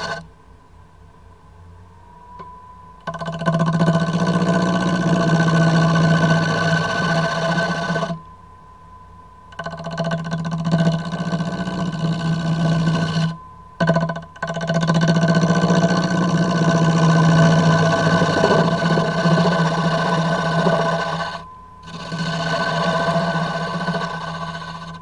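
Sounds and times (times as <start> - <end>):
wood lathe humming: 0.0 - 0.2, 3.0 - 8.2, 9.6 - 25.0.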